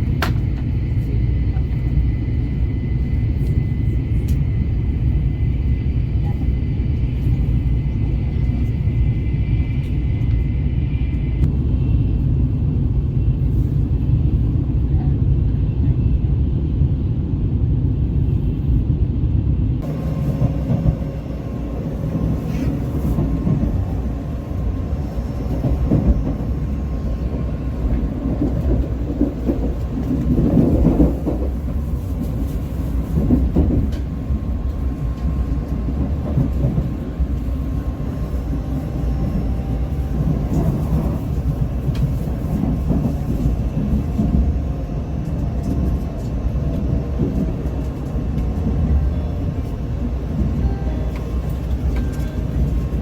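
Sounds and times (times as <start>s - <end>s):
train rumble inside carriage: 0.0s - 53.0s.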